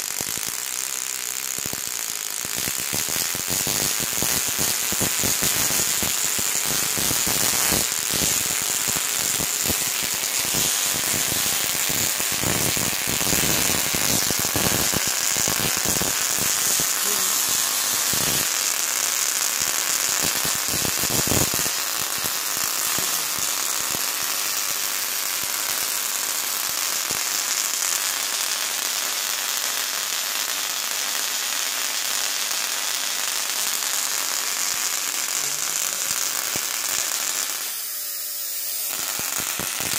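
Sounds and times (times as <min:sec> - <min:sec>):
electric arcs crackling and buzzing: 0:00.0 - 0:39.9.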